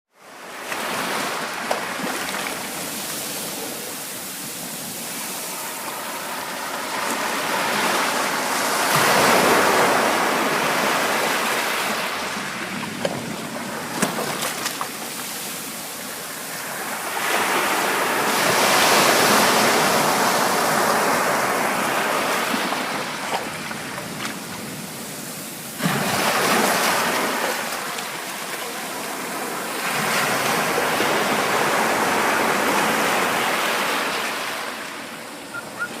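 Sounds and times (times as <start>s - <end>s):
waves breaking on a shore: 0.1s - 36.0s.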